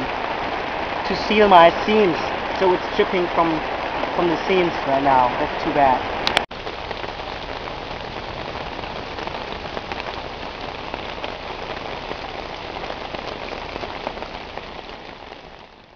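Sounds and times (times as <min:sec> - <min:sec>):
heavy rain on a tarp: 0:00.0 - 0:15.9.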